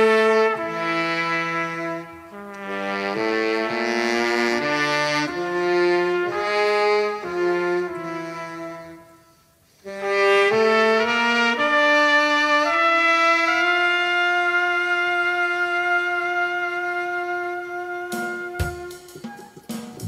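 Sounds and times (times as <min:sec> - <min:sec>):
trumpet and saxophone chords: 0:00.0 - 0:20.0.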